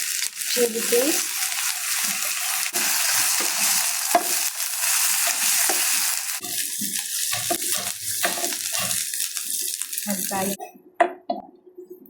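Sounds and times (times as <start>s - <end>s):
food sizzling in hot oil: 0.0s - 10.6s.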